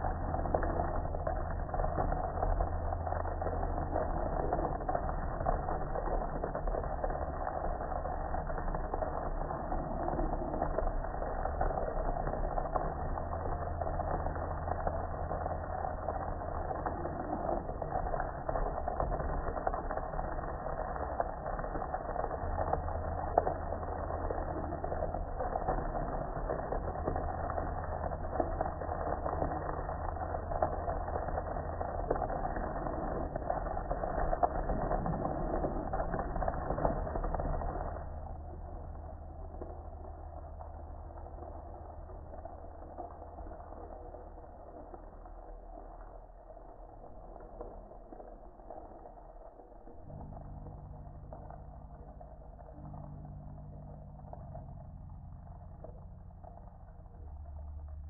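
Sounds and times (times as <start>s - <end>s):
water spraying onto metal grill: 0.0s - 58.0s.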